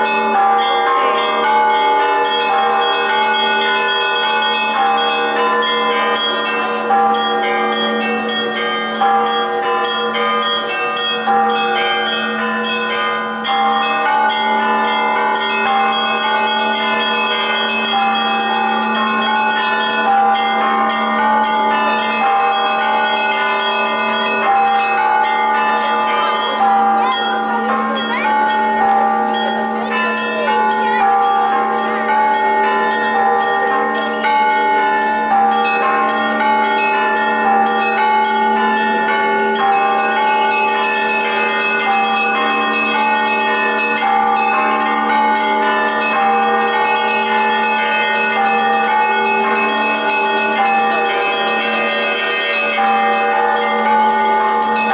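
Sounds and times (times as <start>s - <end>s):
smaller church bells ringing: 0.0s - 54.9s.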